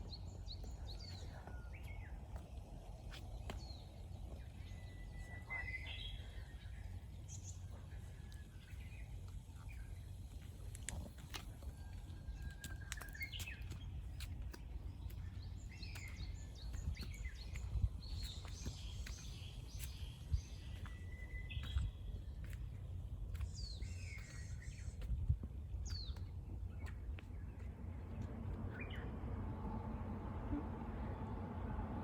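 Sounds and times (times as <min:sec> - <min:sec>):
small songbirds chirping: 0:00.0 - 0:30.0
low wind rumble: 0:00.0 - 0:32.0.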